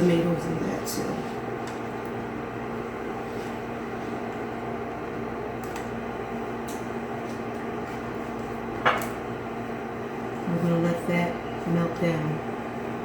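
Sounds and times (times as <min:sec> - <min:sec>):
kitchen appliance hum: 0:00.0 - 0:13.0.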